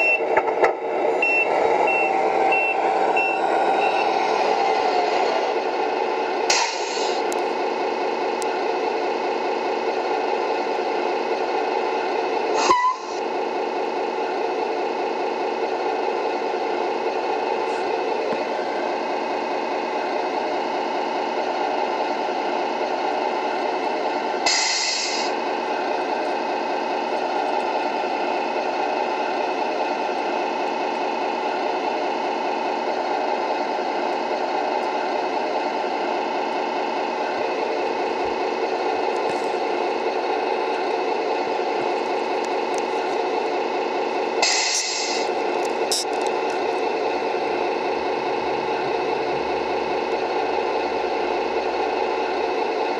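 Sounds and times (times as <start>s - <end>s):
simulated diesel engine from speaker: 0.0s - 52.9s.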